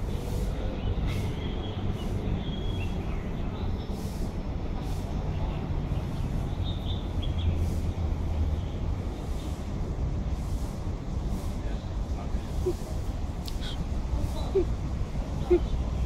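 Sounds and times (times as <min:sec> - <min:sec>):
low rumble of background noise: 0:00.0 - 0:16.0.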